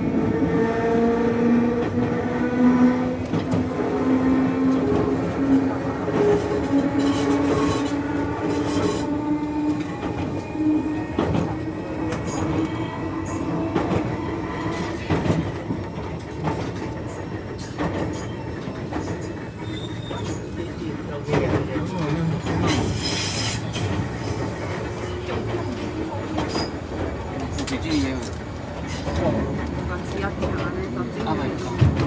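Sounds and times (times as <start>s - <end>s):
wheels clacking on rails: 0.5s - 32.0s.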